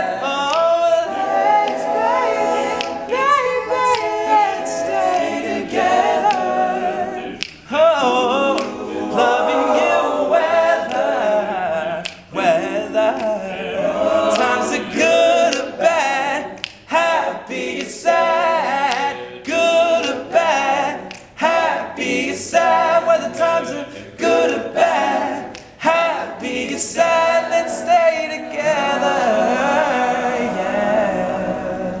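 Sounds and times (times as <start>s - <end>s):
male a cappella group singing: 0.0s - 32.0s.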